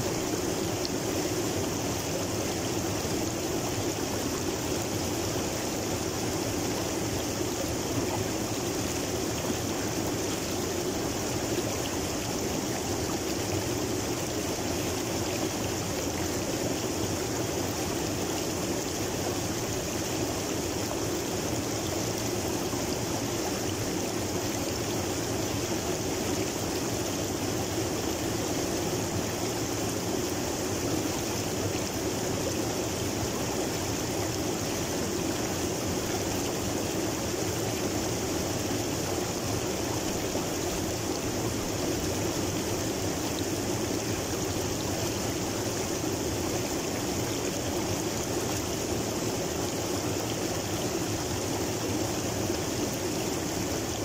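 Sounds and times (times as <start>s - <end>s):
river water flowing over rocks: 0.0s - 54.0s.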